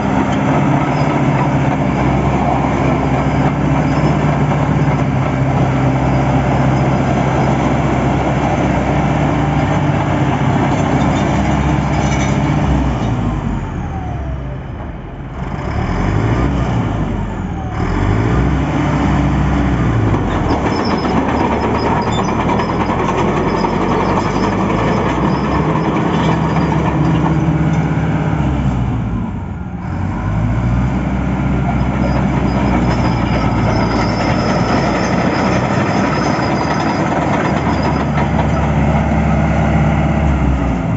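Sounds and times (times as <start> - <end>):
bulldozer diesel engine revving: 0.0 - 14.5, 15.2 - 40.9.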